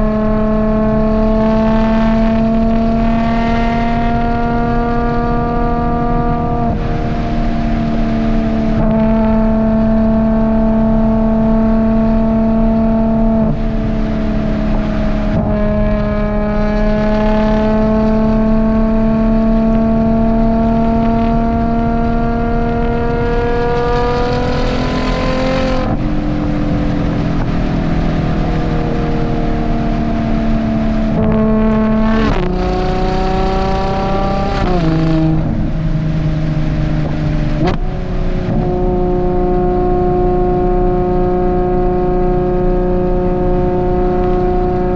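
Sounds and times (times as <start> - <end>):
car engine under load: 0.0 - 44.9.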